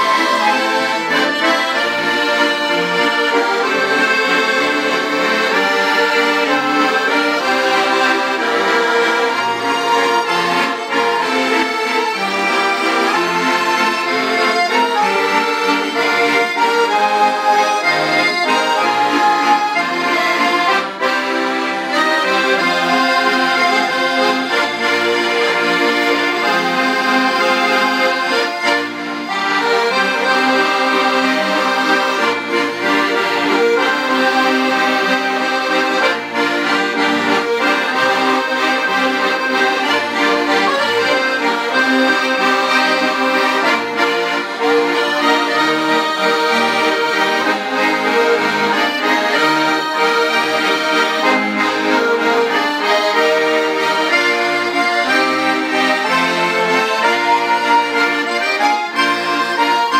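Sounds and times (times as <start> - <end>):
accordion ensemble playing: 0.0 - 59.9.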